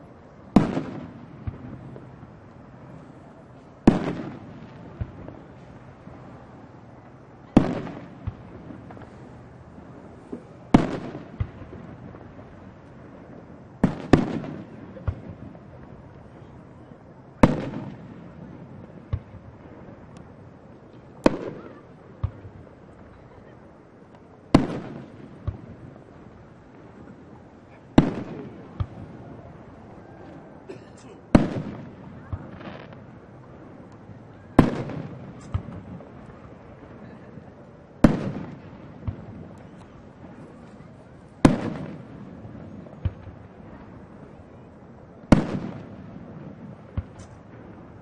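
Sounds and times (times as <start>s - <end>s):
fireworks bangs: 0.0s - 23.4s, 24.0s - 48.0s
faint fireworks pop: 0.5s - 6.4s, 7.0s - 16.7s, 17.3s - 23.5s, 24.1s - 29.6s, 30.2s - 48.0s.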